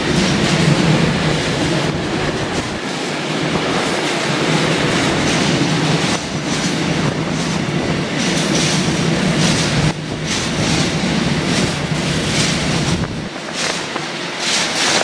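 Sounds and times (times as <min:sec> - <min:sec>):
freight train rumbling past: 0:00.0 - 0:15.0
wheels clickety-clack on track: 0:00.0 - 0:15.0.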